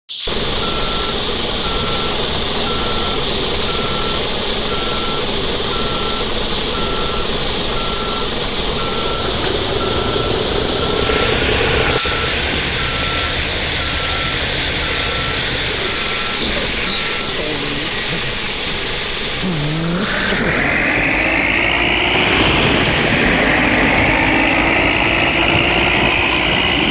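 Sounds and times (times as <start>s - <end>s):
diesel engine under load: 0.2s - 26.9s
truck reversing alarm beeping: 0.2s - 26.9s.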